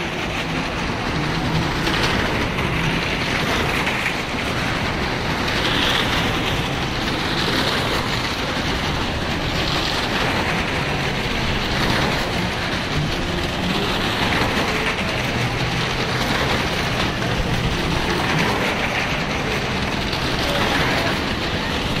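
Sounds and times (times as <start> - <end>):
car engines and tyres on wooden planks: 0.0 - 22.0.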